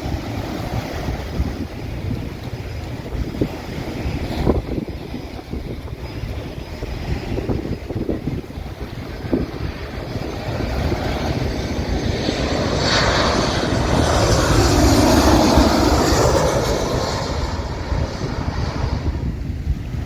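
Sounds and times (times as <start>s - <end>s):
airplane passing low overhead: 0.0s - 20.0s.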